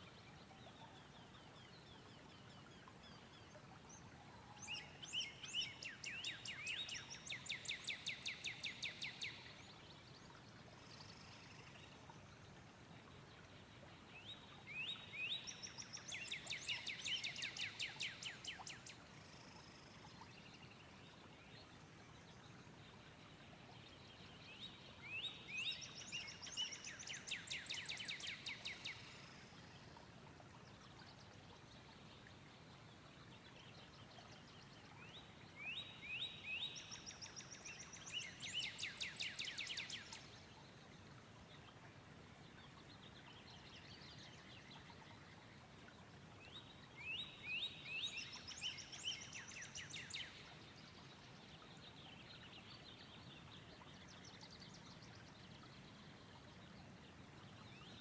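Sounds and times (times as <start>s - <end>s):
faint background noise: 0.0s - 58.0s
songbird singing: 0.0s - 58.0s.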